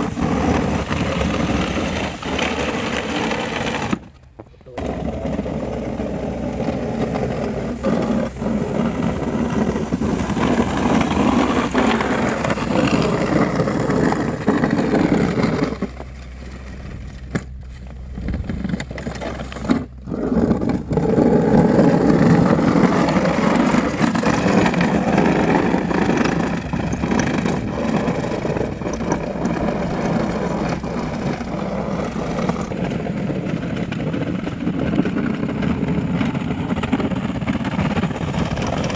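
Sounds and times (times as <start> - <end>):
electric motors of snow plow: 0.0 - 38.9.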